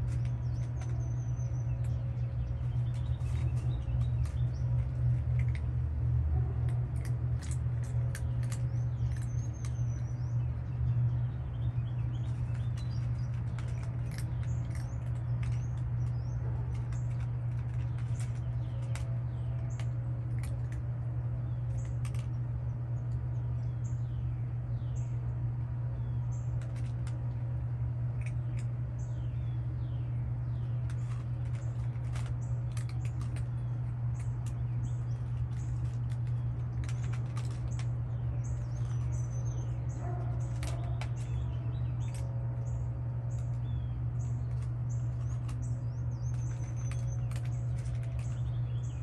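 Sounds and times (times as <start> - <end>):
cats crunching dry kibble: 0.0 - 49.0
small birds chirping: 0.0 - 49.0
steady low hum: 0.0 - 49.0.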